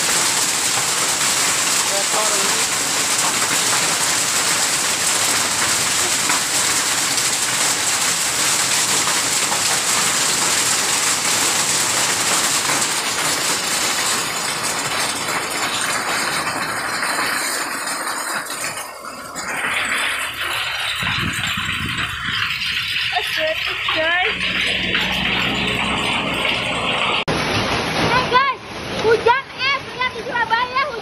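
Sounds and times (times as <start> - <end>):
heavy rain and hail on pavement: 0.0 - 31.0.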